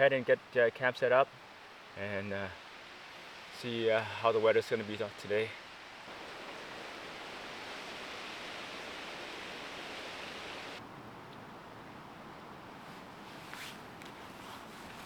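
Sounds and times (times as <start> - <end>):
wind through leaves: 0.0 - 15.0.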